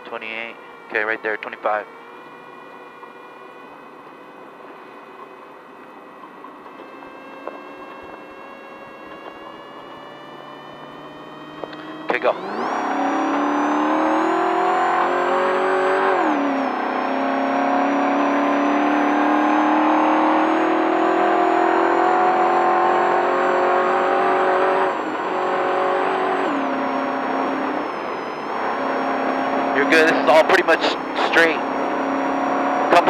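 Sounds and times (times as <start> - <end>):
truck engine accelerating hard: 0.0 - 33.0.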